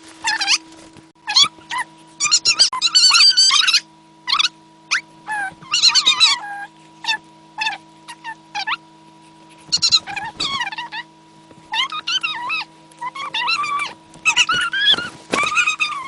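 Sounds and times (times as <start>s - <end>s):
high-pitched animal squeals: 1.2s - 8.8s, 9.6s - 11.1s, 11.7s - 16.0s.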